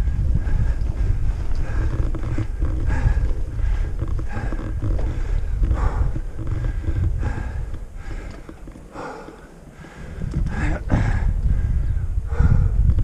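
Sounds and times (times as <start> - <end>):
bike rattles: 0.0 - 12.0
bike tyre noise: 0.0 - 13.0
wind rumbling on microphone: 0.0 - 13.0.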